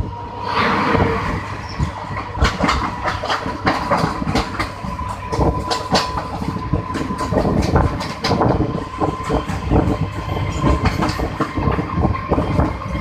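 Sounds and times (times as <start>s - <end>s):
train rumble: 0.0s - 13.0s
train wheels clattering over rail joints: 1.0s - 13.0s.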